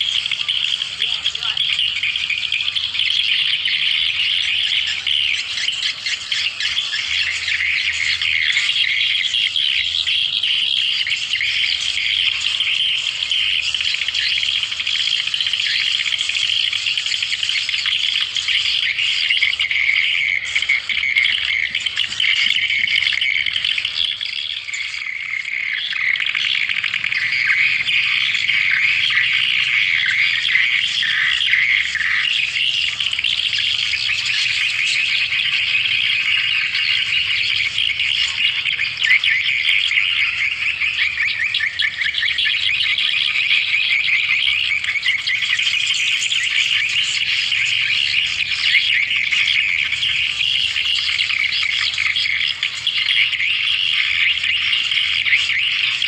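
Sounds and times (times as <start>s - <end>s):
high twittering bird chirps: 0.0s - 56.0s.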